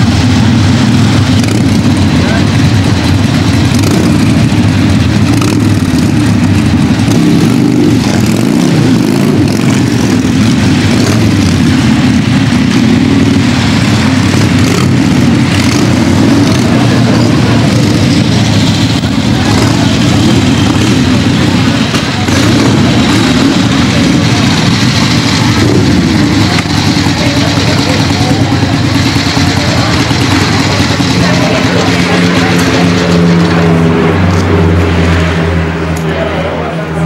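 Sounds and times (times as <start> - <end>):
motorcycle engines running: 0.0 - 37.0.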